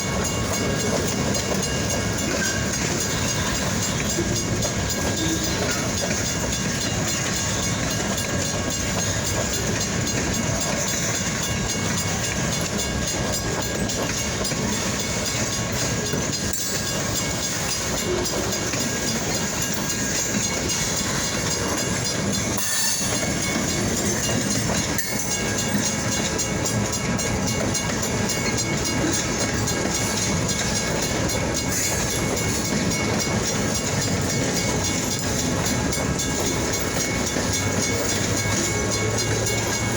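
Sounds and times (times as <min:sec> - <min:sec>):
freight train rolling past: 0:00.0 - 0:39.9
train wheels clattering over rail joints: 0:00.0 - 0:39.9.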